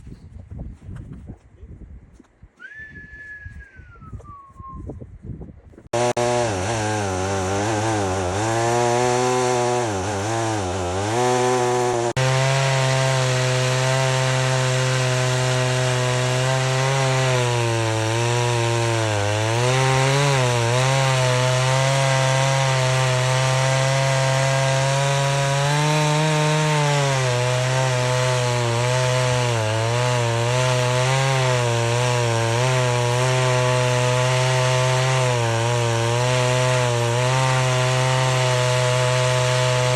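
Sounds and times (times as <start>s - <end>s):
chainsaw cutting under load: 5.9s - 39.9s.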